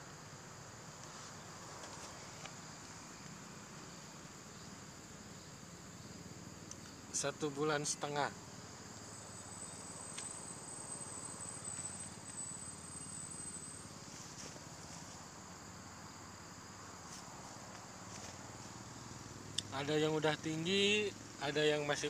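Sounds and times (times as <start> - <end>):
faint insect hiss: 0.0 - 22.0
high-pitched insect whine: 0.0 - 22.0.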